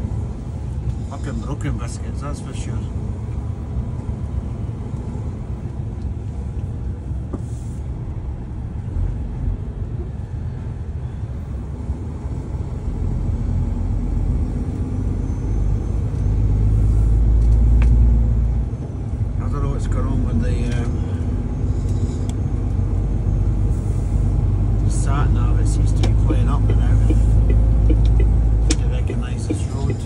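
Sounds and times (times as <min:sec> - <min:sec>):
lorry engine and road noise: 0:00.0 - 0:30.0.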